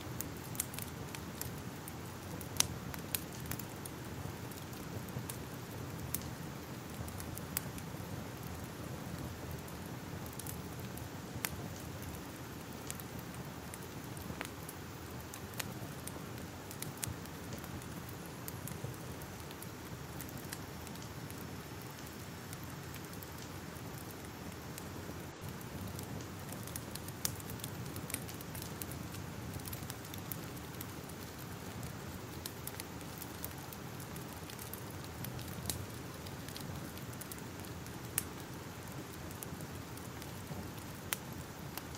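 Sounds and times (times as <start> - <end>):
fire crackling: 0.0 - 41.9
fire popping and snapping: 0.0 - 41.9.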